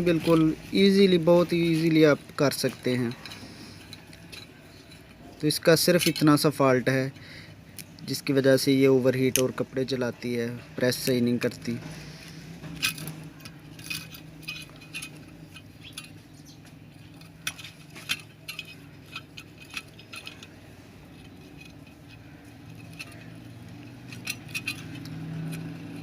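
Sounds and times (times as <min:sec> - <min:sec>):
low steady hum: 0:00.0 - 0:26.0
small metal parts clinking: 0:00.0 - 0:26.0.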